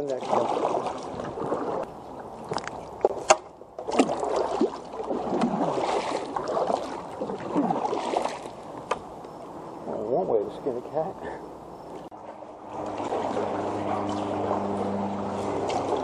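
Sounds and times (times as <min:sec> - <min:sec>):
water splashing against kayak: 0:00.0 - 0:10.0, 0:11.8 - 0:16.0.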